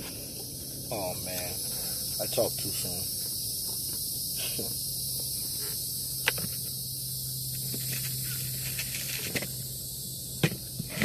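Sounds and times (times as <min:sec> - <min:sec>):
insects buzzing: 0:00.0 - 0:11.0
low steady hum: 0:00.0 - 0:11.0.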